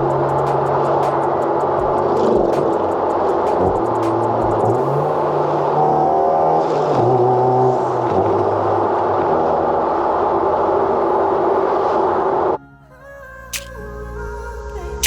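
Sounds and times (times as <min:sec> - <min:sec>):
car engine: 0:00.0 - 0:12.6.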